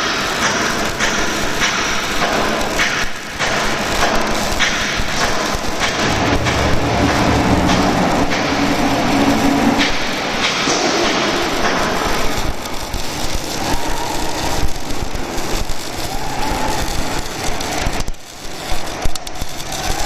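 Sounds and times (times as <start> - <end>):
machinery running: 0.0 - 20.0.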